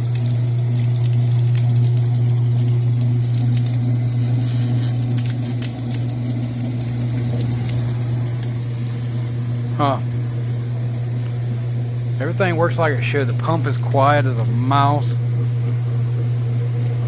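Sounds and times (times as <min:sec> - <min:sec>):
washing machine motor hum: 0:00.0 - 0:17.0
water hissing from spin: 0:00.0 - 0:17.0.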